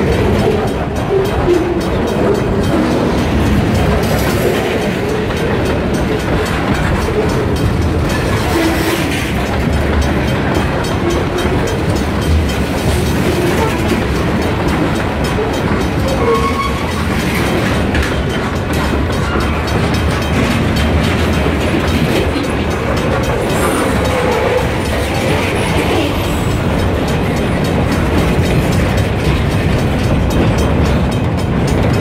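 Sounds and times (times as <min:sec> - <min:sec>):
steel wheels clattering on rails: 0:00.0 - 0:32.0.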